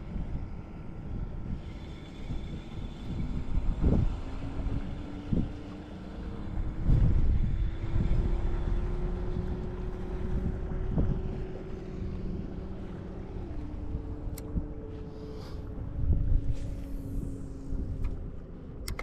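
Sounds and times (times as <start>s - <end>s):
distant boat motor hum: 0.0s - 19.0s
wind on microphone: 0.0s - 19.0s.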